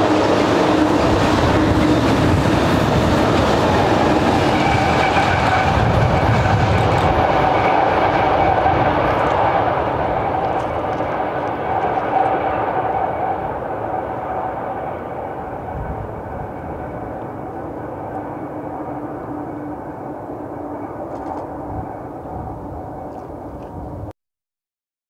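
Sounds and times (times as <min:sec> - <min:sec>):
steady whine: 0:00.0 - 0:24.0
diesel train rumbling on rails: 0:00.0 - 0:24.1.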